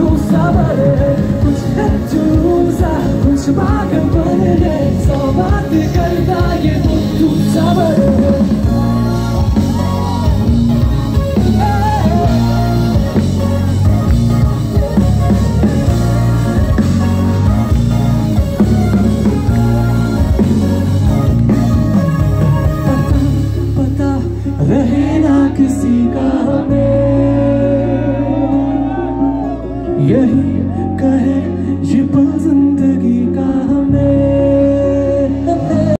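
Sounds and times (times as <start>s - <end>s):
heavy bass line: 0.0s - 35.9s
keyboards: 0.0s - 35.9s
live band playing amplified music: 0.0s - 35.9s
person singing: 0.0s - 35.9s.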